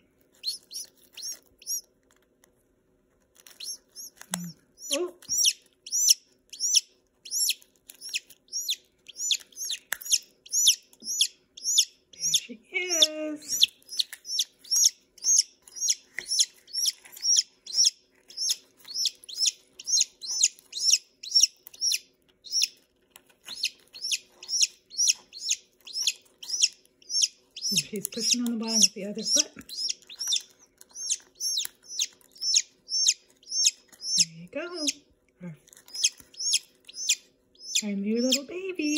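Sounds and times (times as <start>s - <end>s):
chick peeping: 0.4s - 1.9s, 3.4s - 22.8s, 23.4s - 35.1s, 35.7s - 38.9s.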